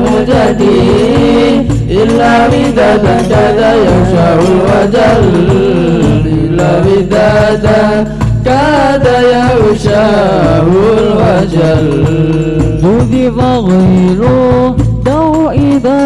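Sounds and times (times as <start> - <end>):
men singing together: 0.0 - 16.0.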